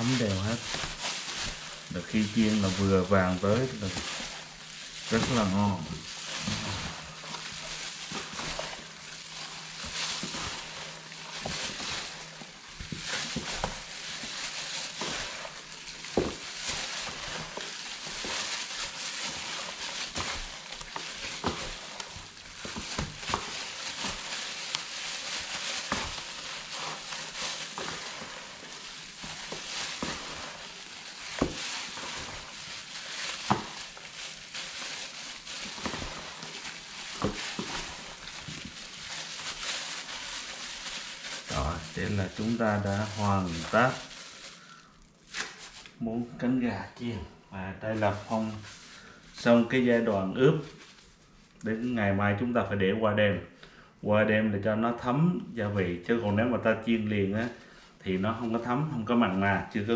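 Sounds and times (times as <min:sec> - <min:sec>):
hands squishing wet marinade: 0:00.0 - 0:46.0, 0:47.8 - 0:52.5.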